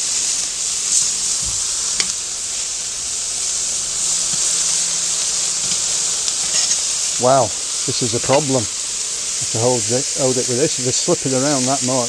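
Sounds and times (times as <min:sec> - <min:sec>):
burgers sizzling on hot steel: 0:00.0 - 0:12.0.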